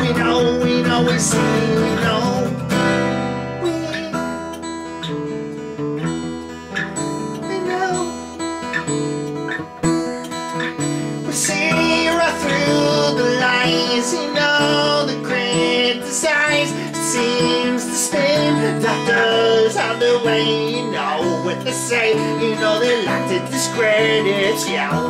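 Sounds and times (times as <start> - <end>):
guitar melody line: 0.0 - 25.0
strummed acoustic guitar chords: 0.0 - 25.0.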